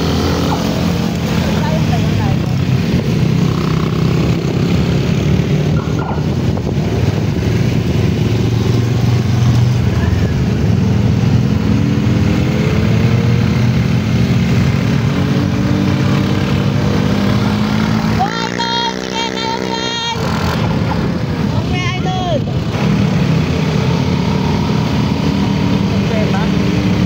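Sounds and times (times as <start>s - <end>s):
motorcycle engines accelerating: 0.0s - 27.0s.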